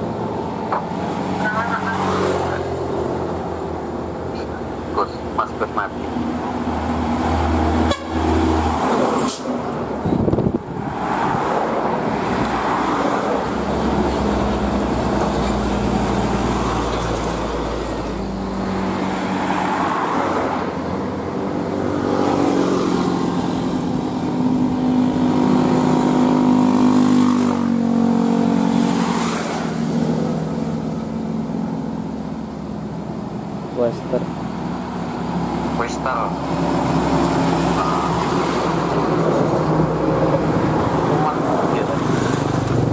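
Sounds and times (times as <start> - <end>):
diesel trucks driving past: 0.0 - 42.9.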